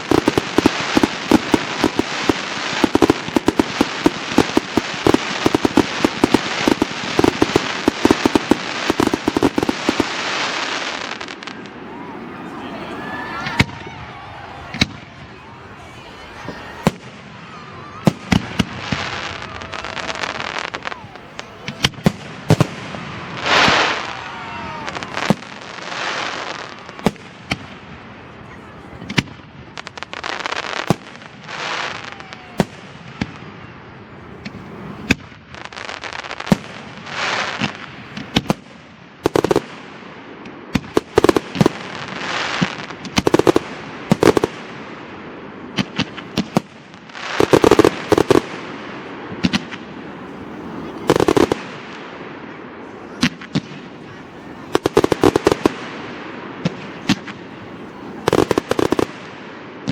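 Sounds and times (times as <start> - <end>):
fireworks whistling glides: 0.0 - 38.4, 45.6 - 59.9
fireworks crackling hiss: 0.0 - 59.9.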